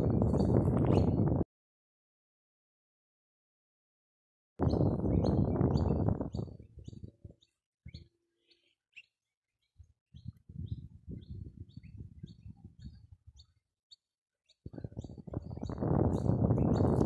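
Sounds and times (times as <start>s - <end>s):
small birds chirping: 0.0s - 1.3s, 4.6s - 17.0s.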